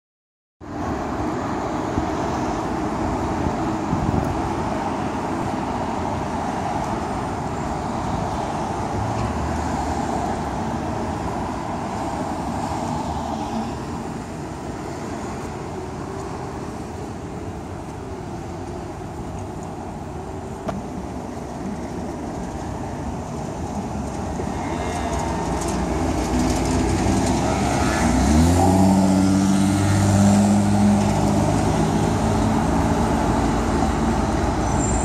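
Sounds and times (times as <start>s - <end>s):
idling and passing cars: 0.6s - 35.0s.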